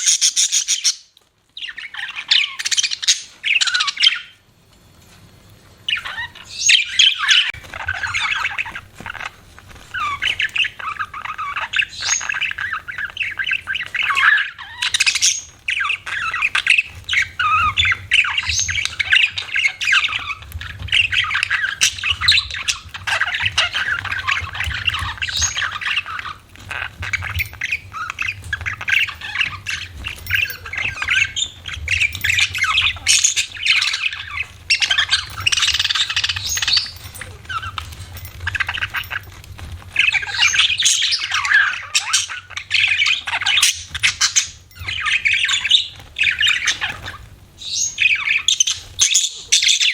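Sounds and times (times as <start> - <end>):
budgerigars chattering: 0.0 - 4.4, 5.9 - 49.9.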